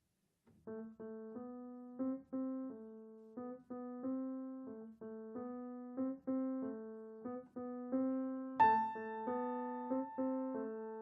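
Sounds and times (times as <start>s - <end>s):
slow soft piano melody: 0.6s - 11.0s.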